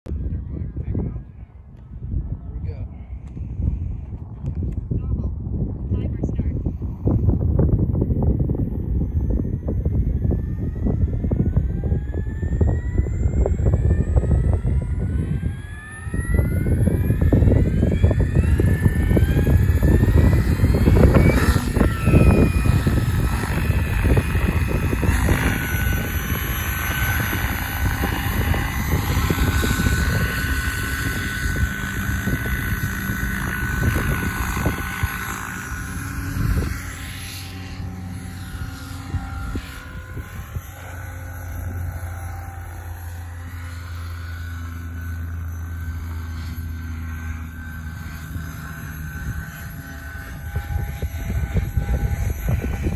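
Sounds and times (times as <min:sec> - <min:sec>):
heavy low rumble: 0:00.1 - 0:52.9
rc helicopter motor whine: 0:00.1 - 0:52.9.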